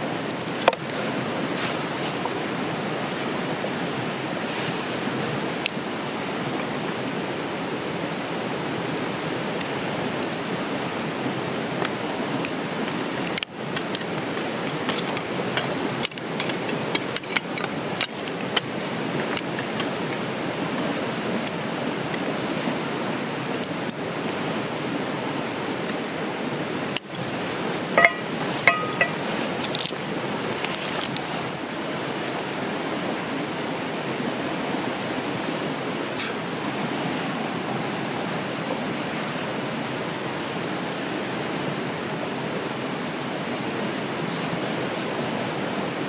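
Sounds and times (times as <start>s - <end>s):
steady rushing noise: 0.0s - 46.0s.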